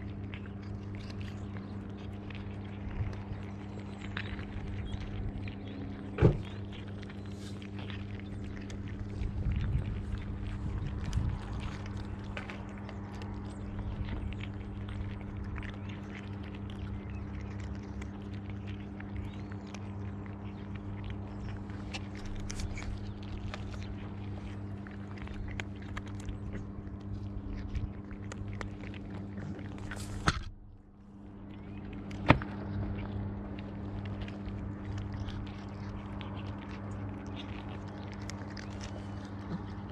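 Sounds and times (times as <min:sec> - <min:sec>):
cats crunching dry kibble: 0:00.0 - 0:39.9
steady low hum: 0:00.0 - 0:39.9.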